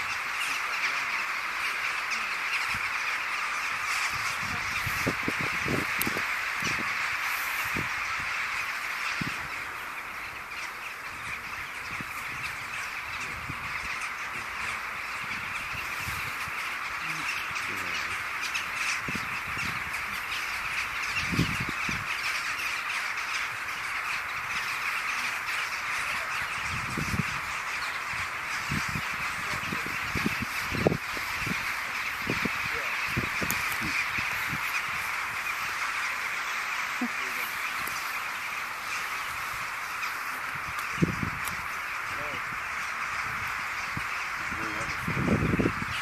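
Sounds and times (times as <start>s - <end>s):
flock of rooks cawing: 0.0s - 46.0s.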